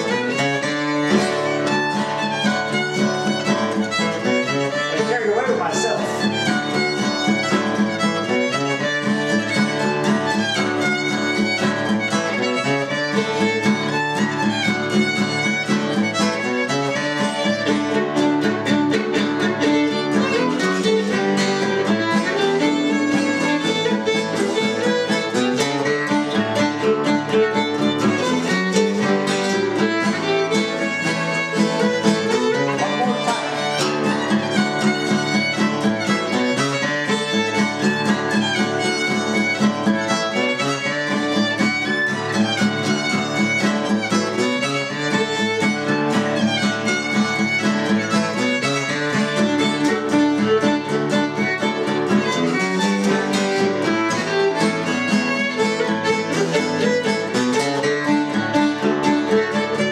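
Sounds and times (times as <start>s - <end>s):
acoustic guitar strumming: 0.0s - 59.9s
fiddle playing lively tune: 0.0s - 59.9s.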